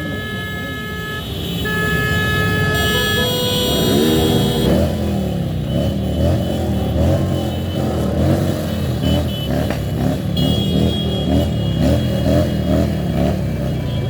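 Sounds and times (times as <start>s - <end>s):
traffic engines running: 0.0s - 14.0s.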